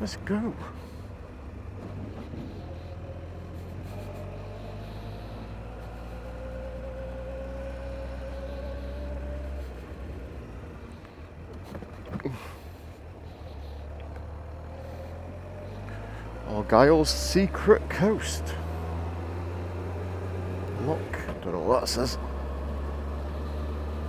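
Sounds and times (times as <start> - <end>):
faint engine whine: 0.0 - 24.0
motorcycle engine running: 0.0 - 24.0.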